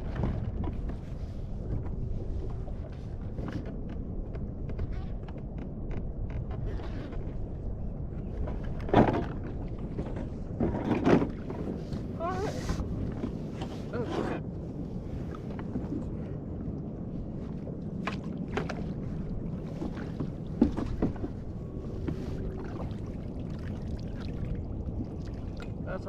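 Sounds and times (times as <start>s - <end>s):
water around a kayak: 0.0s - 26.0s
wind: 0.0s - 26.0s.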